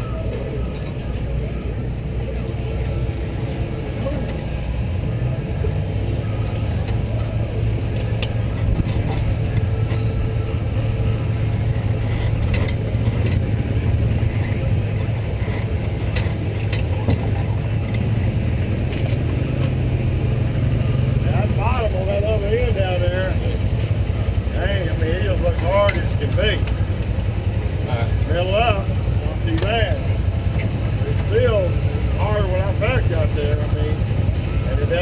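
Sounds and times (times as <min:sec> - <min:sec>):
race car engine idling: 0:00.0 - 0:35.0.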